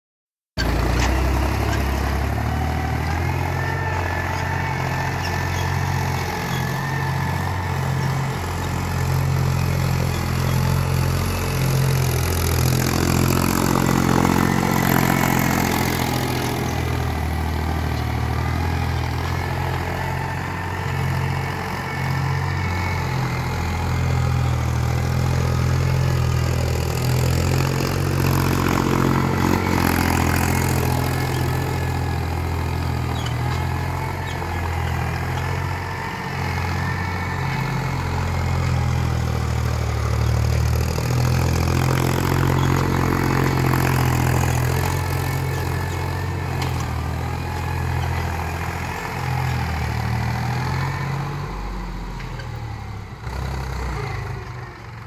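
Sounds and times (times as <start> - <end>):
diesel tractor engine running: 0.6 - 55.0.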